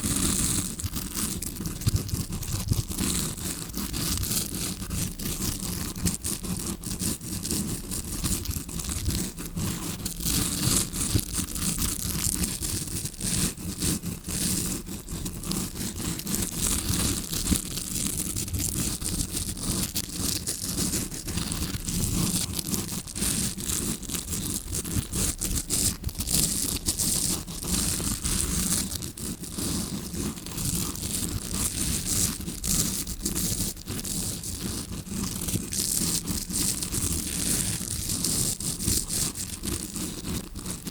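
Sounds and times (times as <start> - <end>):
brush scratching on microphone: 0.0 - 40.9.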